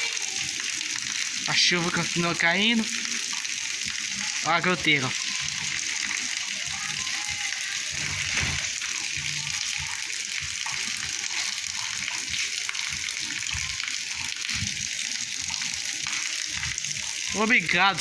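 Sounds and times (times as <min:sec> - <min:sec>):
steady rain: 0:00.0 - 0:18.0
water dripping from roof leak: 0:00.0 - 0:18.0.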